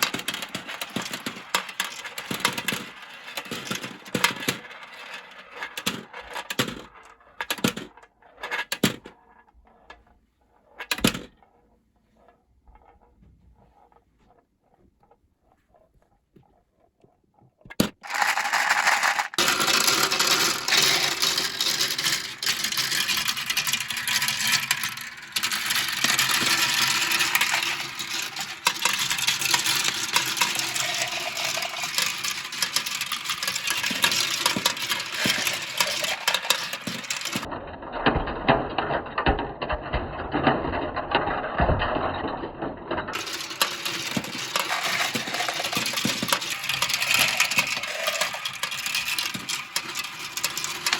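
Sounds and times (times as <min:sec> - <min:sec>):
marbles rattling down plastic run: 0:00.0 - 0:08.0, 0:17.8 - 0:50.9.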